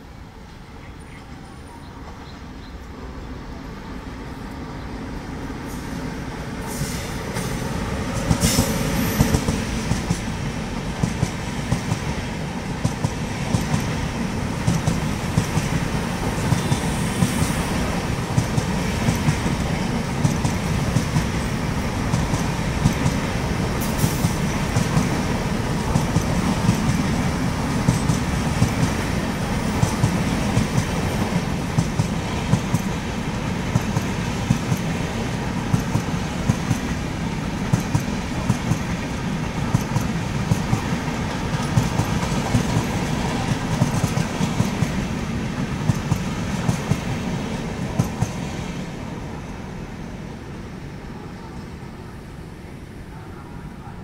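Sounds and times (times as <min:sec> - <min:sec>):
commuter train passing: 0:00.0 - 0:54.0
passenger train rumbling past: 0:00.0 - 0:54.0.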